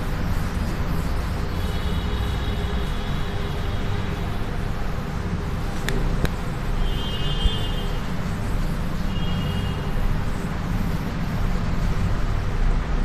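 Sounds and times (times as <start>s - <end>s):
duster wiping chalkboard: 0.0s - 13.0s.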